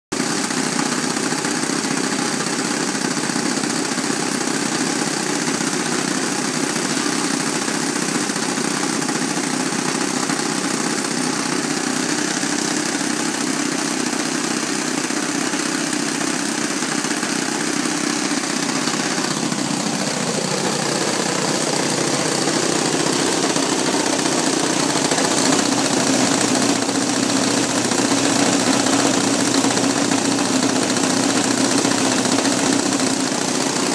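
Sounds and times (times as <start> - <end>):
model airplane engines running: 0.1 - 33.9.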